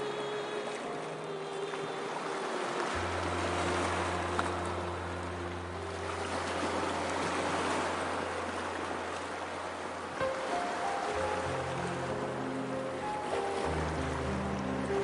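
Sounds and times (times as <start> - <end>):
low steady hum: 0.0 - 15.0
ocean surf rushing: 0.0 - 15.0.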